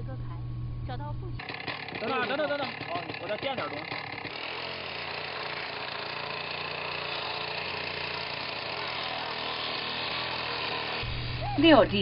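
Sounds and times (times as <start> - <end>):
circular saw cutting metal drum: 1.4 - 12.0.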